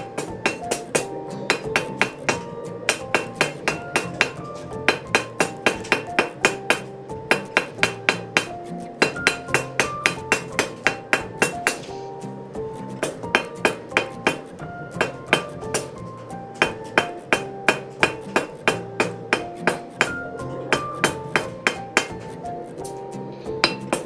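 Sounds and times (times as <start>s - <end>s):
hammer striking steel on anvil: 0.0s - 11.9s, 12.9s - 22.4s, 23.6s - 24.0s.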